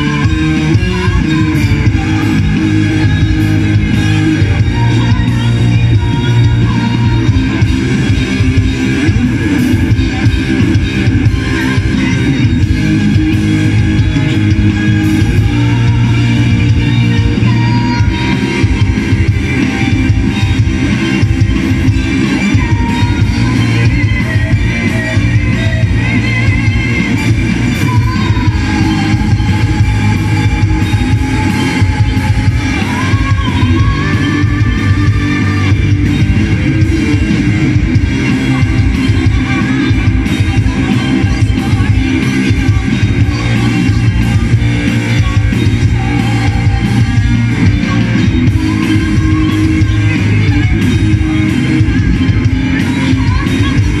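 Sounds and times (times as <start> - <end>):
drum kit: 0.0 - 54.0
electric guitars: 0.0 - 54.0
woman singing into microphone: 0.0 - 54.0.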